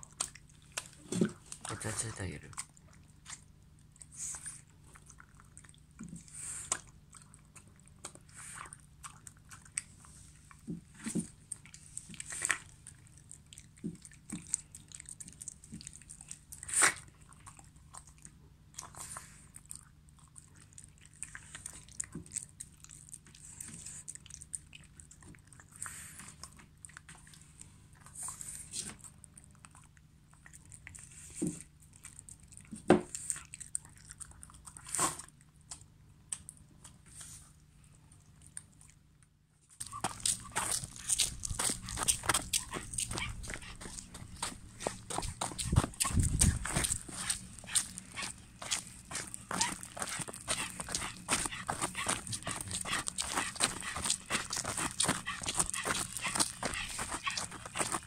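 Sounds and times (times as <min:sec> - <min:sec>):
dog licking and chewing: 0:00.0 - 0:58.0.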